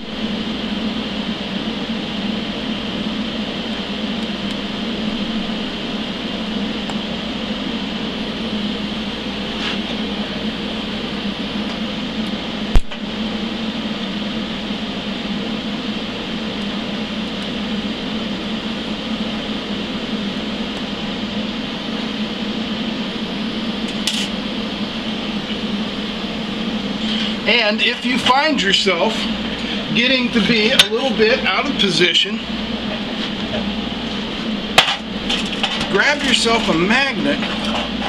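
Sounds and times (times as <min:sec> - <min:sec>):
welding hum and hiss: 0:00.0 - 0:38.0.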